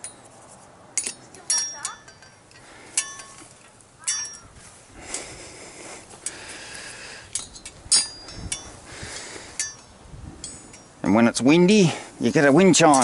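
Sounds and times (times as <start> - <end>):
metal barbecue tools clinking: 0.0 - 0.4, 1.0 - 5.3, 6.1 - 13.0.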